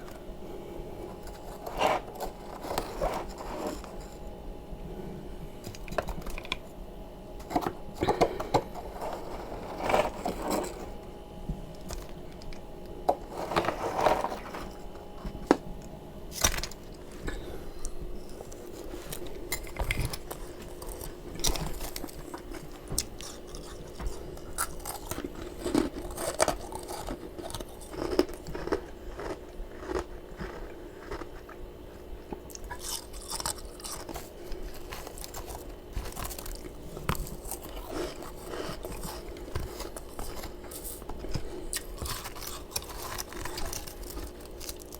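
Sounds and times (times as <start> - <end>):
chewing crunchy frost: 0.0 - 4.4, 7.4 - 44.9
faint steady hum: 0.0 - 44.9.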